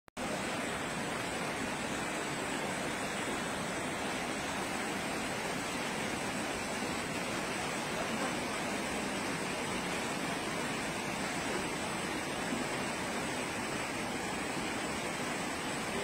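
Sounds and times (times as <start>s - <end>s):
floodwater rushing down street: 0.2s - 16.0s.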